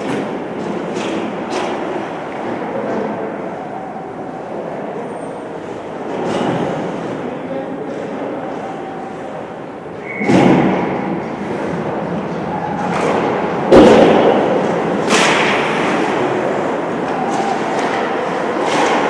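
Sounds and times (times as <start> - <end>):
hall background noise: 0.0 - 19.0.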